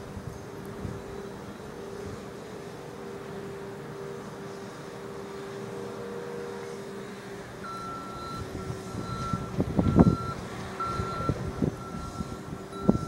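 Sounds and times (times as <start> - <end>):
low engine hum: 0.0 - 13.0
vehicle back-up alarm beeping: 0.2 - 13.0.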